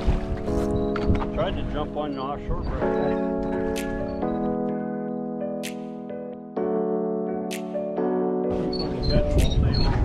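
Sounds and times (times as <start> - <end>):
held keyboard chords: 0.0 - 9.7.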